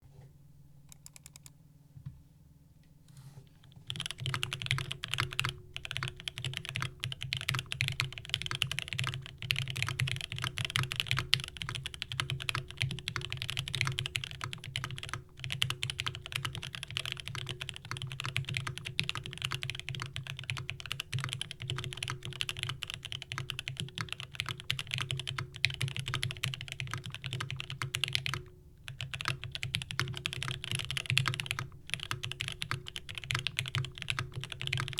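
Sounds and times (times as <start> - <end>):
fast typing on mechanical keyboard: 0.9 - 1.5, 3.8 - 34.9.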